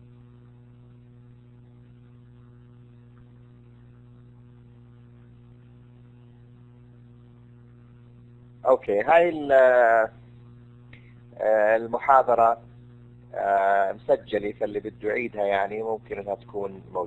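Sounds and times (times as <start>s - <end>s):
electrical mains hum: 0.0s - 17.0s
faint hiss: 0.0s - 17.0s.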